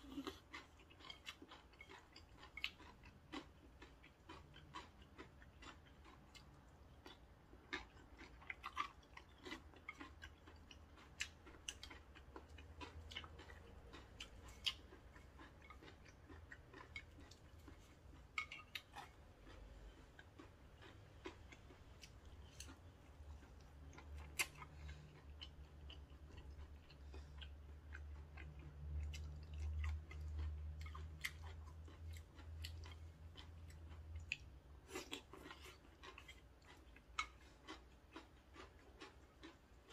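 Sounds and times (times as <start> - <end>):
chewing noodles: 0.0 - 39.9
low steady hum: 0.0 - 39.9.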